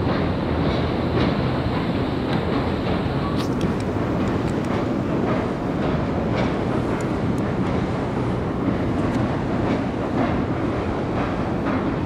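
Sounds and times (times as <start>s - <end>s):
train running over bridge: 0.0s - 12.0s.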